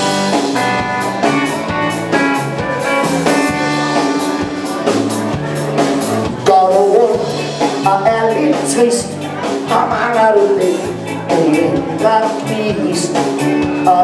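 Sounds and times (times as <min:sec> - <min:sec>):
drum kit beat: 0:00.0 - 0:14.0
live band playing: 0:00.0 - 0:14.0.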